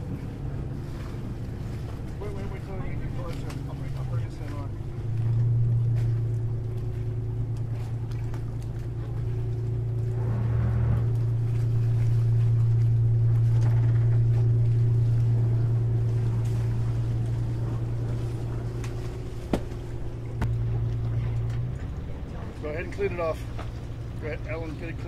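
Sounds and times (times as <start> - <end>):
boat engine running at low revs: 0.0 - 25.0.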